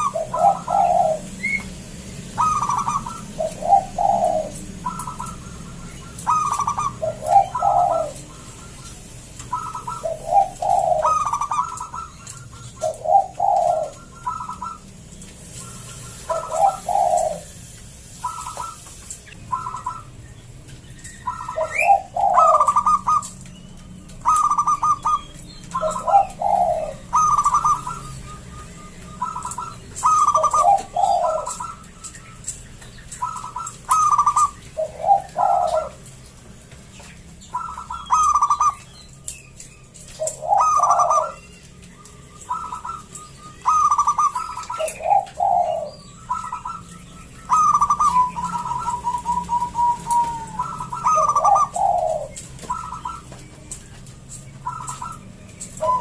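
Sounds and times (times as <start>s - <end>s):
dove cooing: 0.0s - 20.2s, 21.0s - 56.0s.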